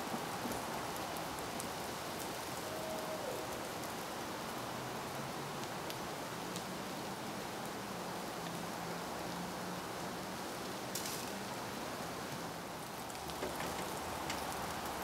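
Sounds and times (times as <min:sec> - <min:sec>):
rain-like outdoor hiss: 0:00.0 - 0:15.0.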